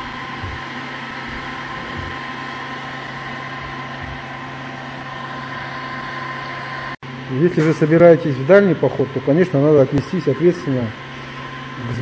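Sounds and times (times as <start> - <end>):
heat gun droning: 0.0 - 12.0.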